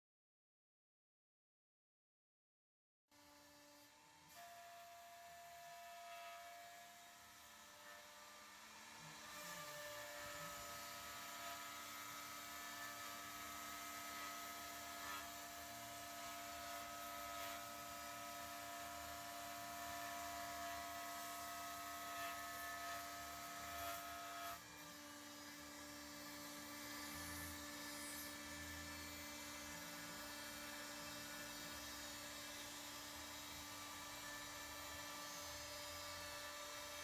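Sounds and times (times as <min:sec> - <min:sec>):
router machine whining: 0:03.2 - 0:37.0.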